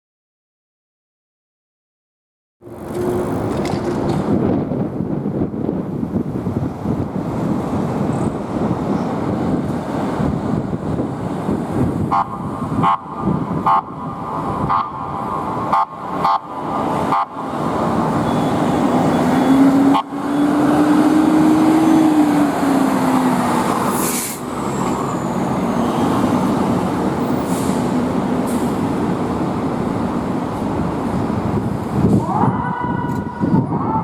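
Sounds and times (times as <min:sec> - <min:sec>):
fire engine driving by: 0:02.6 - 0:33.9.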